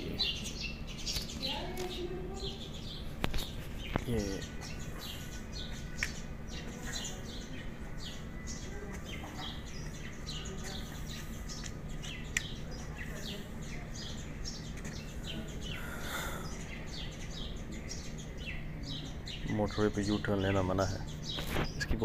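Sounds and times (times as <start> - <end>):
birds chirping: 0.0 - 22.0
steady low hum: 0.0 - 22.0.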